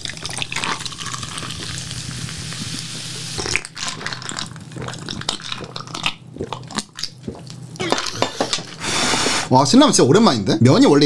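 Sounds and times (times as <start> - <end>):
person sipping: 0.3 - 9.5.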